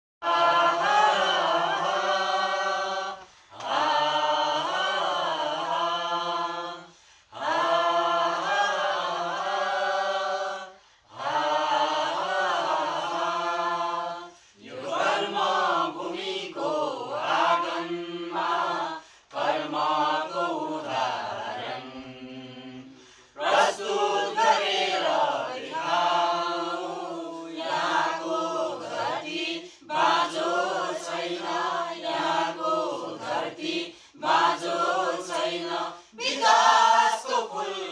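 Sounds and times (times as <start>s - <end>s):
group singing in unison: 0.2s - 37.9s.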